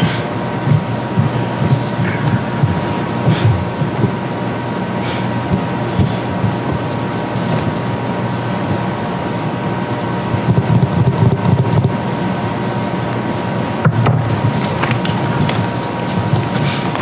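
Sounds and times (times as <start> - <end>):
low room noise rumble: 0.0 - 17.0.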